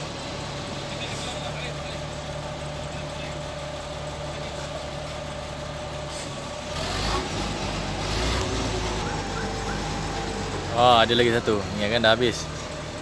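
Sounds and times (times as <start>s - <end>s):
diesel engine idling: 0.0s - 13.0s
faint engine whine: 0.0s - 13.0s.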